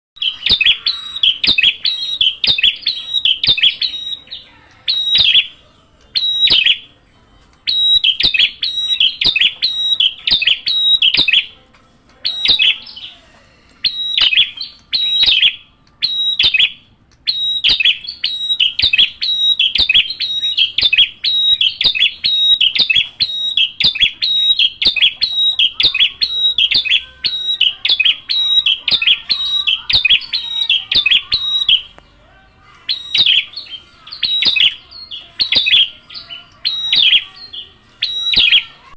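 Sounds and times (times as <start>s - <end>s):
small bird chirping: 0.2s - 6.9s, 7.6s - 11.6s, 12.2s - 32.0s, 32.7s - 38.9s.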